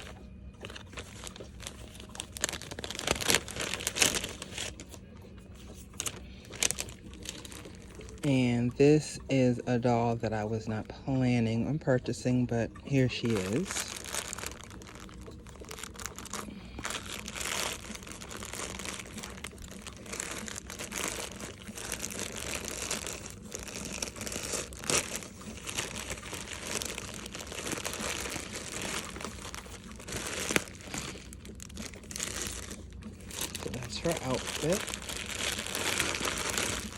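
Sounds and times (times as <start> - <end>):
packaging crinkling and rustling: 0.0 - 9.3, 12.8 - 36.9.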